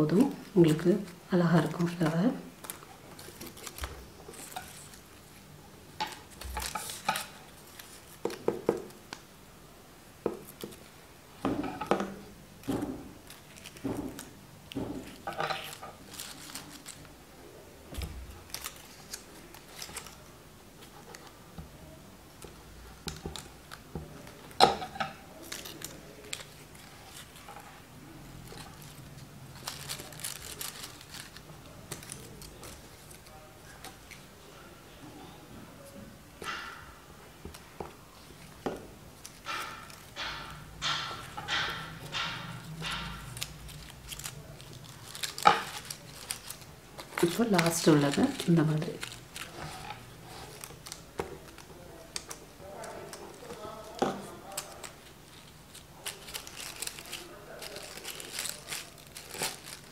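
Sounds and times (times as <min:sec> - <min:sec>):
paper petals rustling: 0:00.4 - 0:05.5, 0:06.1 - 0:08.9, 0:12.2 - 0:17.3, 0:17.9 - 0:22.0, 0:25.4 - 0:34.5, 0:37.6 - 0:59.9.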